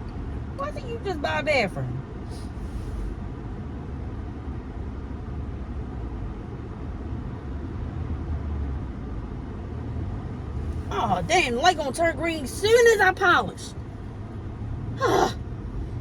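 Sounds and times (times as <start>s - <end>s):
car cabin low rumble: 0.0s - 8.1s, 10.2s - 16.0s
air conditioning blowing hiss: 0.0s - 16.0s.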